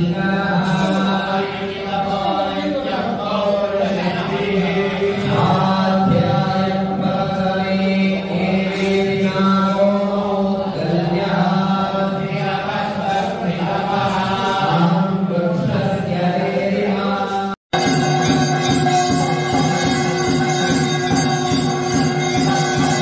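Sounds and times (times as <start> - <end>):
voices chanting in unison: 0.0 - 23.0.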